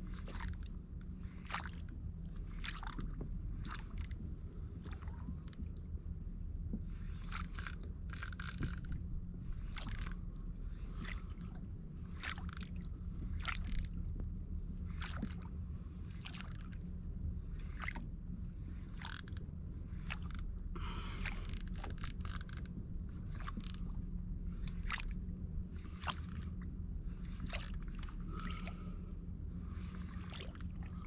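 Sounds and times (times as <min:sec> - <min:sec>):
low rumble: 0:00.0 - 0:31.0
water sloshing against kayak hull: 0:00.0 - 0:31.0.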